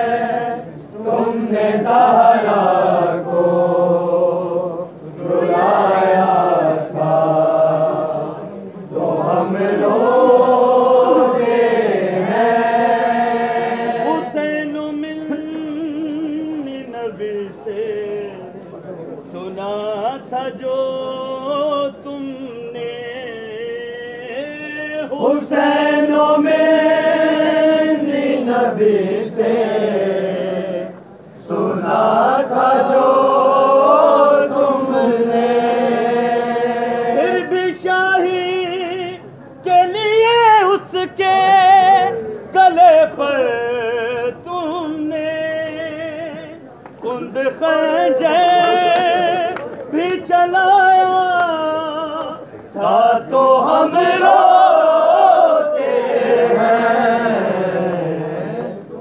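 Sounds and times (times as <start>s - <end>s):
men singing lament: 0.0s - 18.4s, 19.5s - 59.0s.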